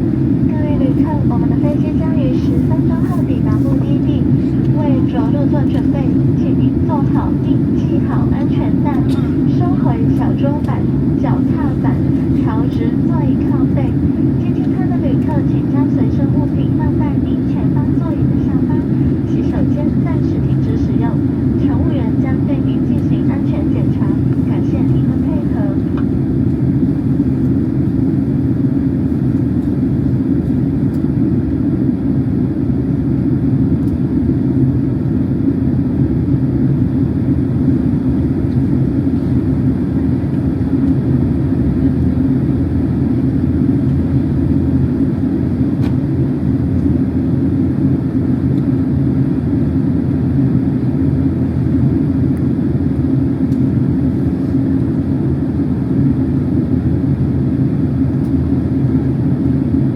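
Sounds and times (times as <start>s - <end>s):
airflow over fuselage: 0.0s - 59.9s
jet engines: 0.0s - 59.9s.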